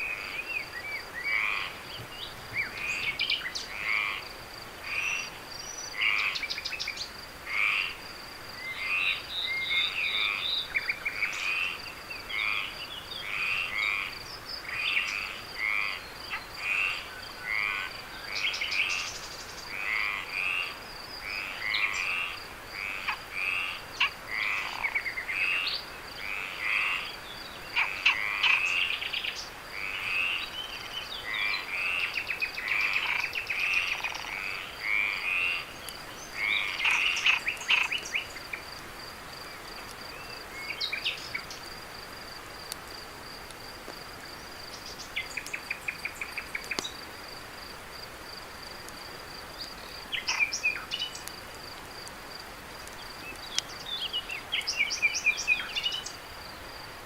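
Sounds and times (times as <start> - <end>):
frogs calling: 0.0 - 57.0.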